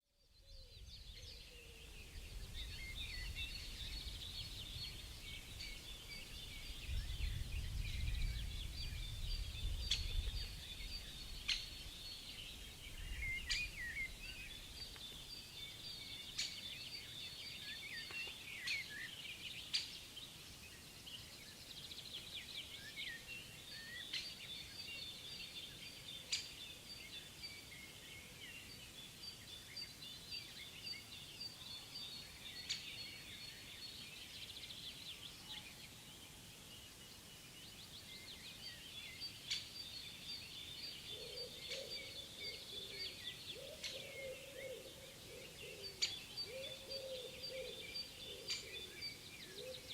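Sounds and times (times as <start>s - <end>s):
birds chirping chorus: 0.2s - 49.9s.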